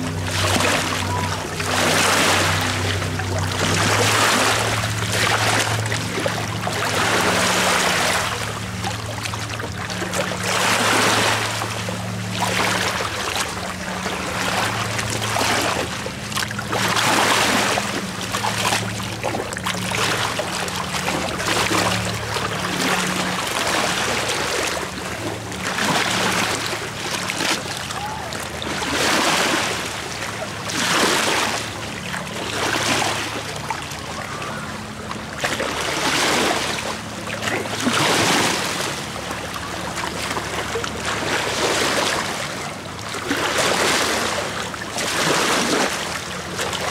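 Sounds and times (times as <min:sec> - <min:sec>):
steady low hum: 0:00.0 - 0:46.9
waves lapping on stony shore: 0:00.0 - 0:46.9.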